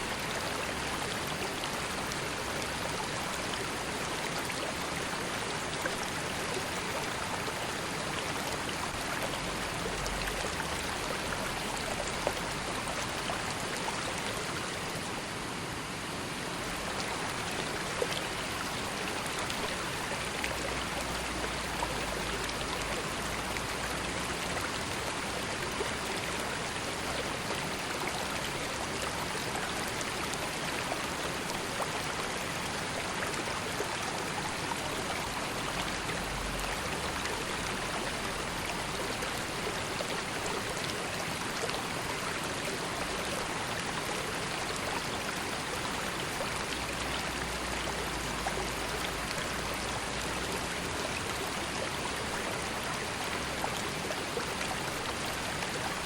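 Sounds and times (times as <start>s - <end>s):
river water rushing: 0.0s - 56.0s
water splashes and trickles: 0.0s - 56.0s.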